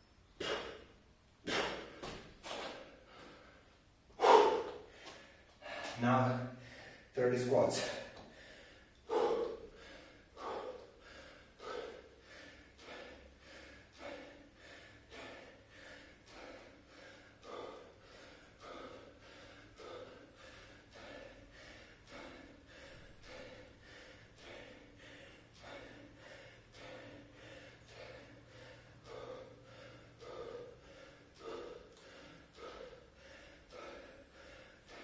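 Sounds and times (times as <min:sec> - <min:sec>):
man breathing hard: 0:00.3 - 0:35.0.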